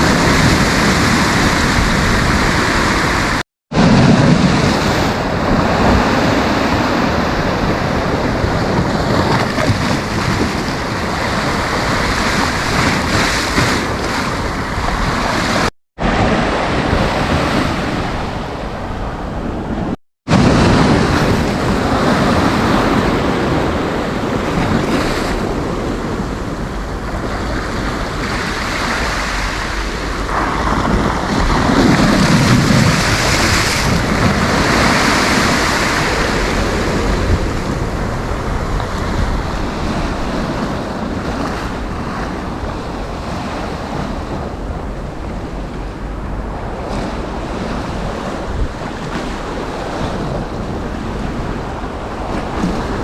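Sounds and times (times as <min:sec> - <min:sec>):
sea waves breaking on beach: 0:00.0 - 0:53.0
wind rumbling on microphone: 0:00.0 - 0:53.0.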